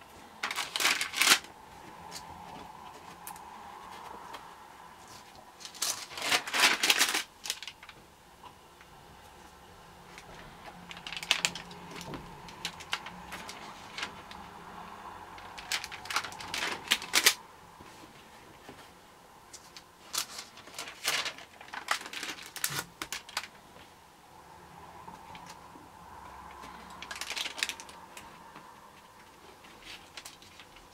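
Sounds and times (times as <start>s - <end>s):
album pages turning and crackling: 0.0s - 8.6s, 9.3s - 23.9s, 26.5s - 30.9s.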